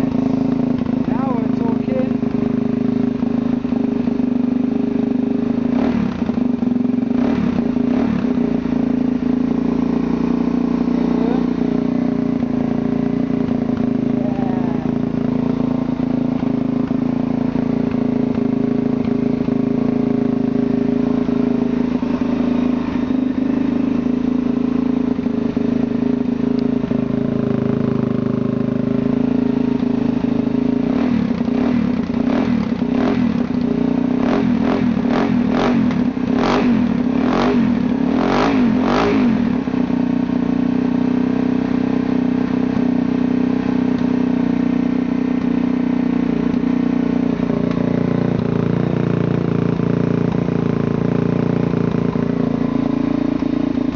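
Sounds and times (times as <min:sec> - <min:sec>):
engine throttle blips with pops: 0:00.0 - 0:04.3, 0:05.1 - 0:39.9, 0:43.8 - 0:44.6, 0:45.3 - 0:53.9
motorcycle engine idling: 0:00.0 - 0:53.9.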